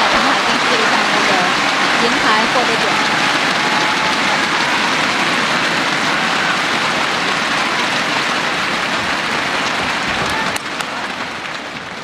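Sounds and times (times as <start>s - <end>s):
large crowd applauding: 0.0s - 12.0s.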